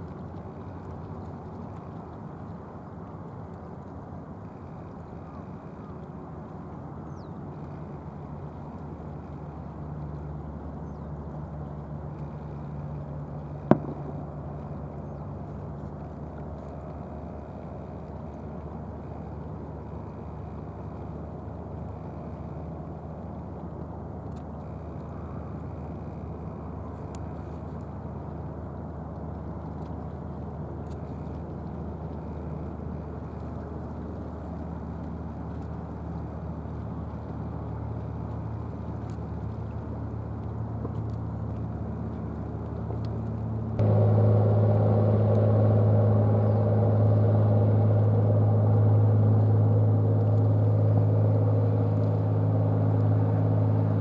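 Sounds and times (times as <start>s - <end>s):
outboard motors droning: 0.0s - 54.0s.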